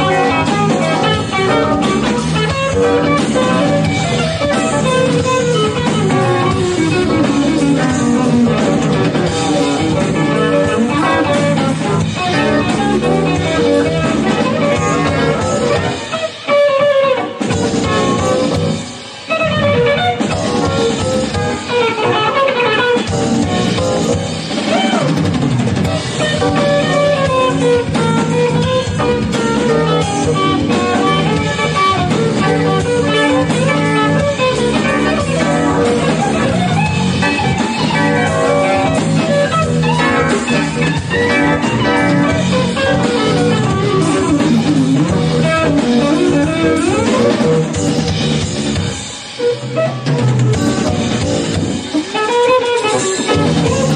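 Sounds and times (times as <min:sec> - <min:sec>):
blues-jazz band playing: 0:00.0 - 0:53.9
electric guitar playing: 0:00.0 - 0:53.9.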